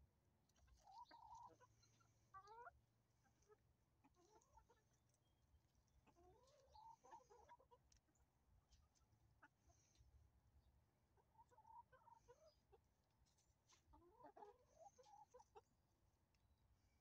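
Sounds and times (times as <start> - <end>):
hens clucking: 0.5 - 5.1, 5.8 - 10.3, 11.0 - 15.9.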